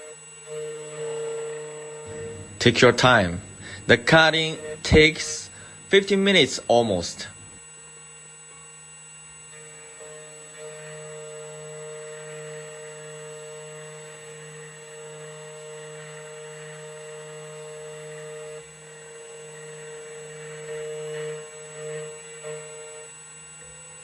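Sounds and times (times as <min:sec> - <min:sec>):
key cutting machine whirring: 0:00.0 - 0:23.6.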